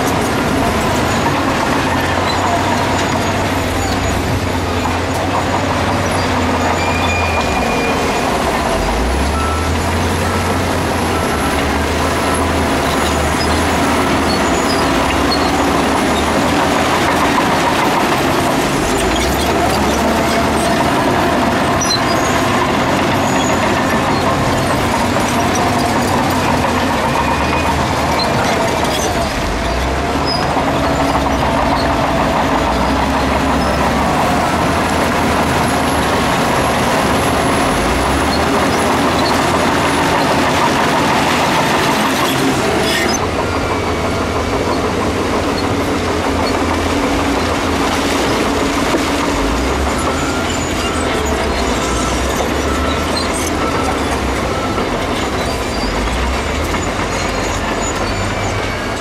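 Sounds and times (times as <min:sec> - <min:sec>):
diesel engine under load: 0:00.0 - 0:59.0
steel tracks clanking and squealing: 0:00.0 - 0:59.0.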